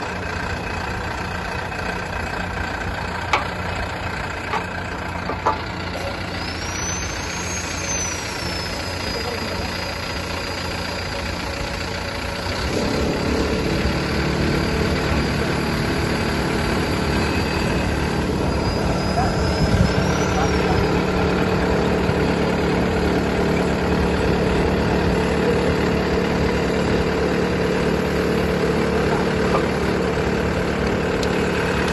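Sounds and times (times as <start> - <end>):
pile driver engine running: 0.0 - 31.9.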